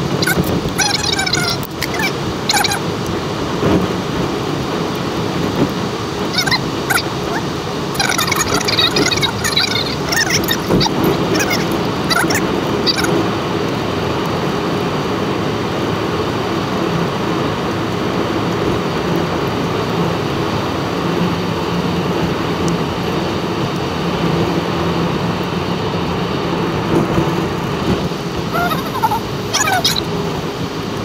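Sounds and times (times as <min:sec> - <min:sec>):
car cabin road noise: 0:00.0 - 0:31.0.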